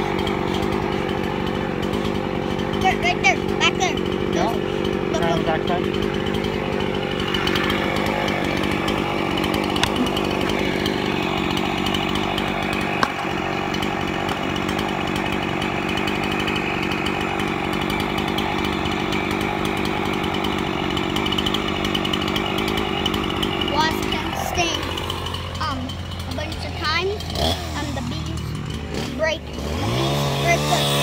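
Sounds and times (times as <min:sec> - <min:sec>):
chainsaw engine running: 0:00.0 - 0:31.0.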